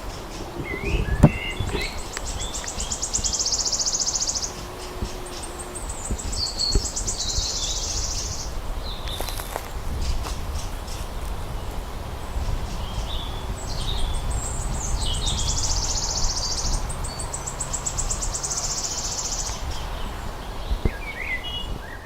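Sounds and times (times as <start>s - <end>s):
songbird trilling: 0.0s - 22.0s.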